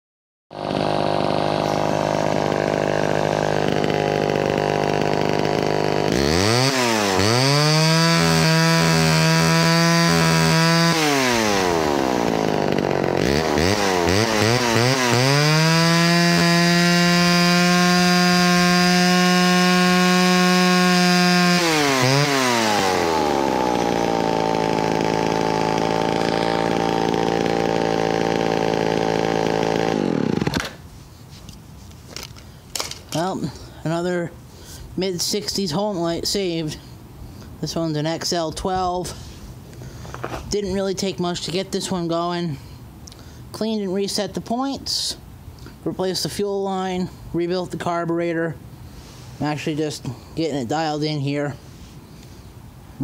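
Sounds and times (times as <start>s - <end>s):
chainsaw engine idling and revving: 0.5s - 30.8s, 39.0s - 51.6s.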